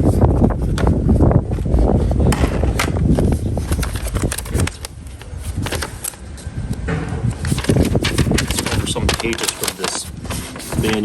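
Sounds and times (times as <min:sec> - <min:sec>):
cardboard box being handled: 0:00.0 - 0:06.2, 0:07.4 - 0:11.0.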